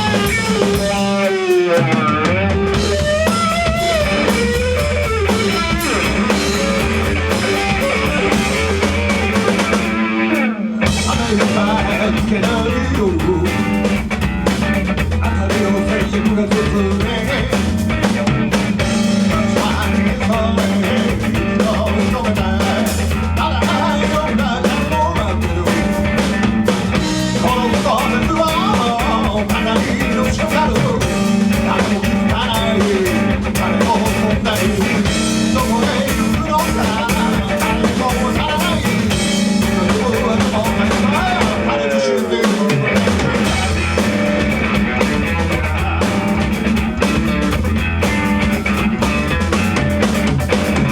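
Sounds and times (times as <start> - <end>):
drum kit: 0.0 - 50.9
guitars: 0.0 - 50.9.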